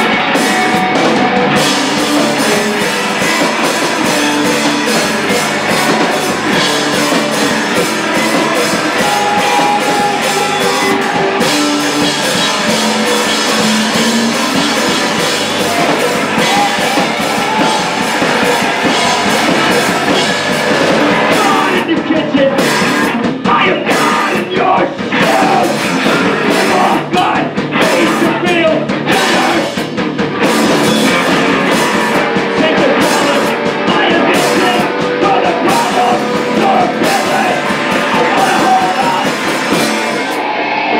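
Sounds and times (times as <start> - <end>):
bass guitar: 0.0 - 40.9
distorted electric guitars: 0.0 - 40.9
drum kit: 0.0 - 40.9.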